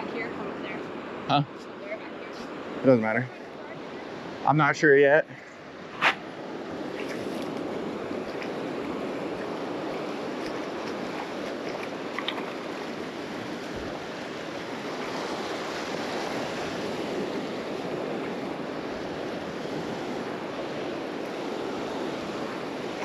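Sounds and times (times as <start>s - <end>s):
small waves breaking on sand: 0.0s - 23.0s.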